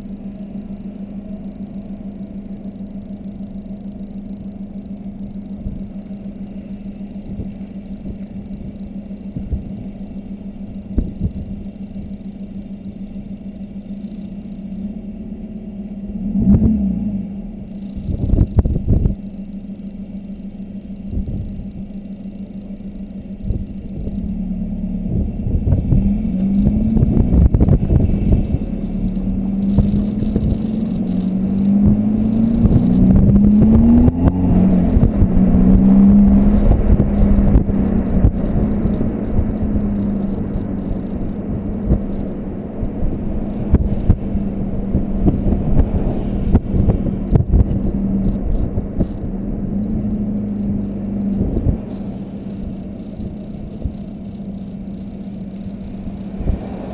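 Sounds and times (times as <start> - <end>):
deep exhaust rumble: 0.0 - 56.9.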